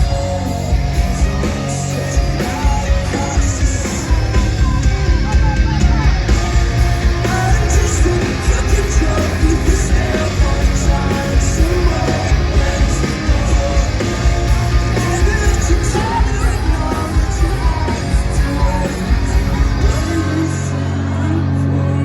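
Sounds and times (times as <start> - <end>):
fast drum beat: 0.0 - 20.4
distorted guitars: 0.0 - 22.0
live rock band playing: 0.0 - 22.0.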